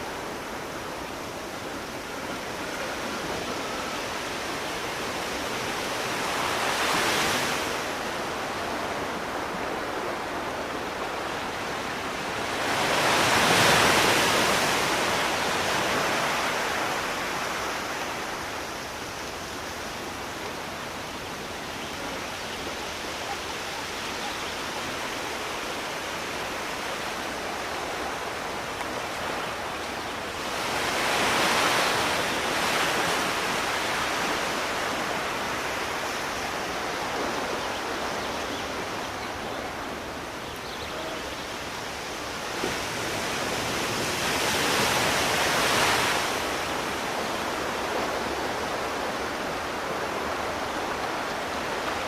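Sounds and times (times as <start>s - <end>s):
large waves breaking: 0.0s - 52.0s
surf hiss: 0.0s - 52.0s.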